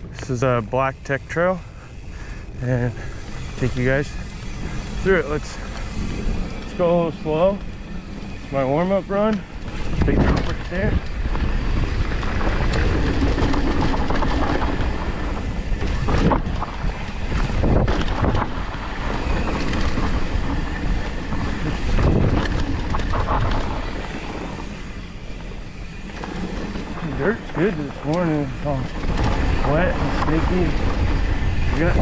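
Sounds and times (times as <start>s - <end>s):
bike knocking and rattling: 0.0s - 32.0s
wind rushing over microphone: 0.0s - 32.0s
tyre noise on dirt: 4.2s - 32.0s.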